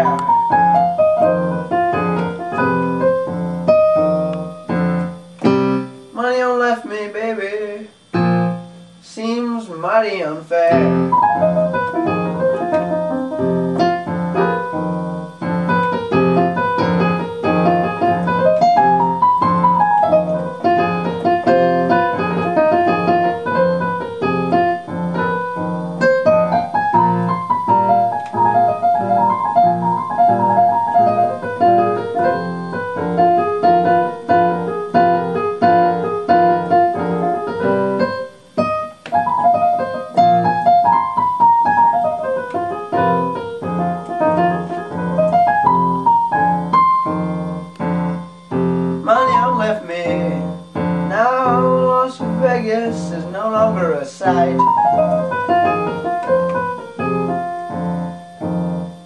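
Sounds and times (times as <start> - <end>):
solo piano: 0.0 - 9.1, 10.1 - 59.0.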